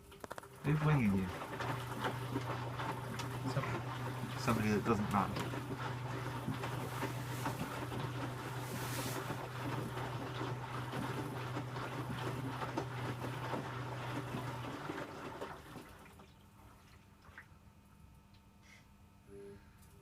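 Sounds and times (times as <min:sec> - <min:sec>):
washing machine motor hum: 0:00.0 - 0:18.2
washing machine drum sloshing: 0:00.3 - 0:17.6.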